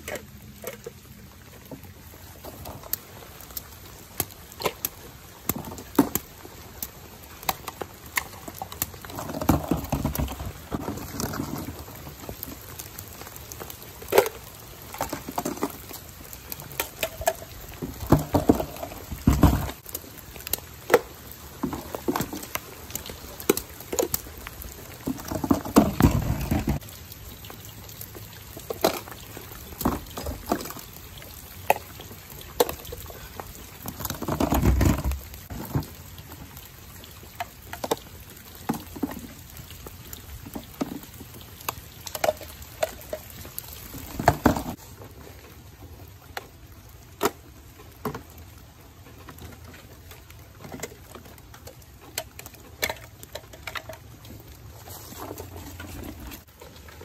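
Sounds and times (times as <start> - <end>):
light rain pattering on stone: 0.0 - 57.0.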